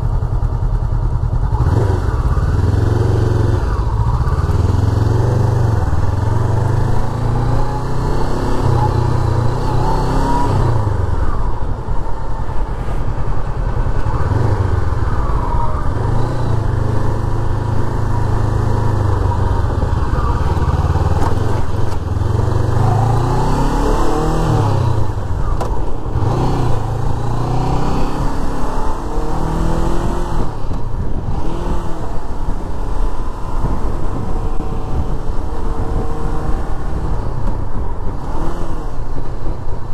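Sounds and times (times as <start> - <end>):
motorcycle engine accelerating: 0.0 - 39.8.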